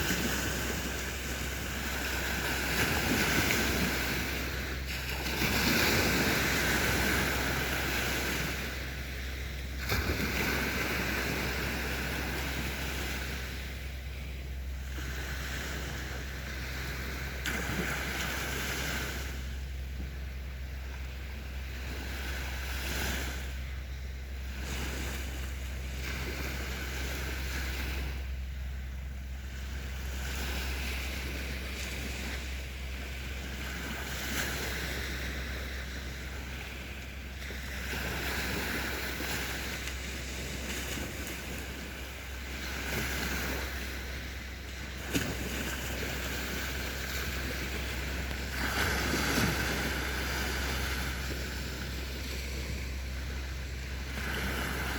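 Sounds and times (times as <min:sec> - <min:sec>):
sea waves breaking on shore: 0:00.0 - 0:54.9
wind on microphone: 0:00.0 - 0:54.9.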